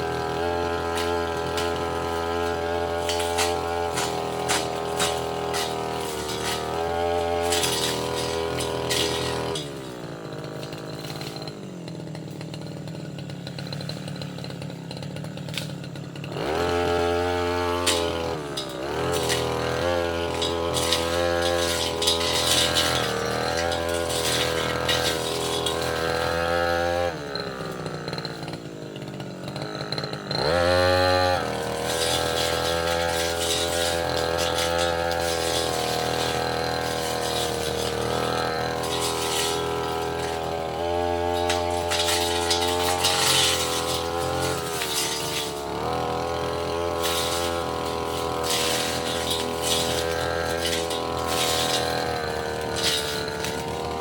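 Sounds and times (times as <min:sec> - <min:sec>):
blade striking twigs and debris: 0:00.0 - 0:12.7, 0:15.4 - 0:15.9, 0:16.6 - 0:28.5, 0:30.5 - 0:54.0
brush cutter engine revving: 0:00.0 - 0:54.0.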